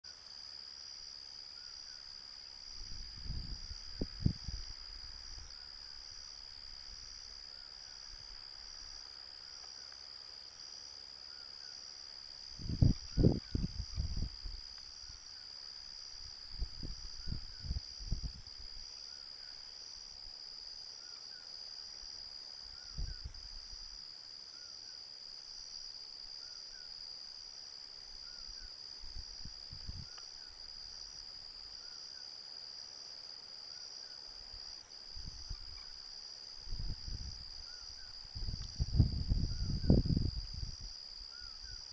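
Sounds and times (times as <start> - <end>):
night insects trilling: 0.1 - 41.9.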